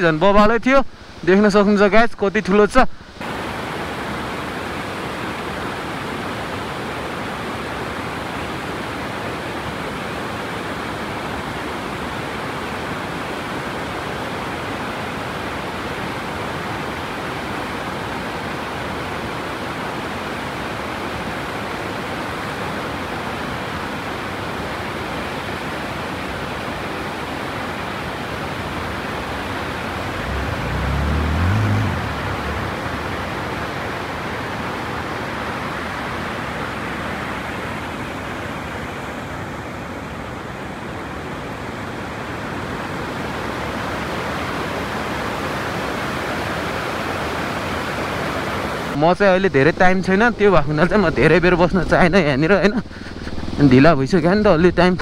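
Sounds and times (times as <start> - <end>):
waterfall rushing: 0.9 - 1.6, 2.9 - 55.0.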